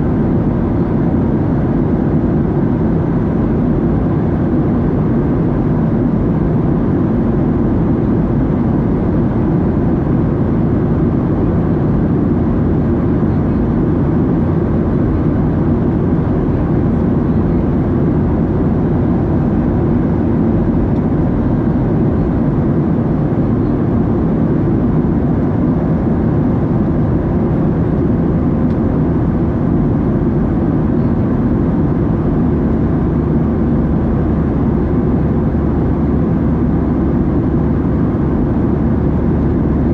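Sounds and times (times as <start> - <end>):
airflow over fuselage: 0.0 - 39.9
airplane cabin engine drone: 0.0 - 39.9.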